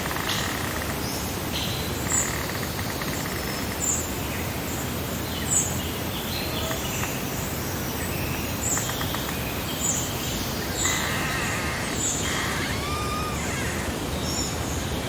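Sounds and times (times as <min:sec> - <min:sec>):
small songbirds chirping: 0:00.0 - 0:15.0.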